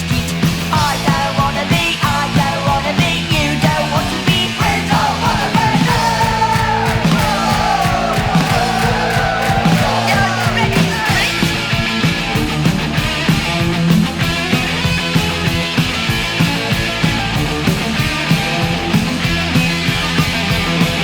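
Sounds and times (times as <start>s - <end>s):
bass: 0.0s - 21.0s
fast drum beat: 0.0s - 21.0s
melodic lead guitar line: 0.0s - 21.0s.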